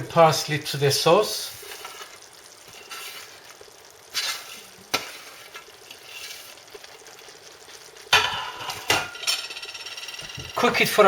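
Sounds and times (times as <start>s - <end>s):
meat sauce sizzling in a pan: 0.0s - 11.0s
stirring in a pan: 0.7s - 11.0s.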